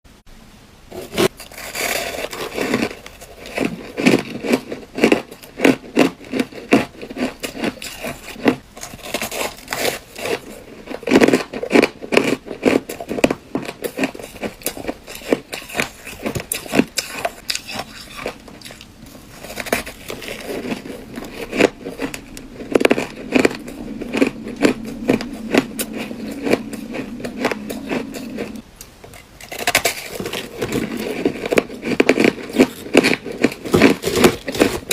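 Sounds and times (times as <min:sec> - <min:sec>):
ice crunching being chewed: 0:01.3 - 0:28.6, 0:29.4 - 0:34.9.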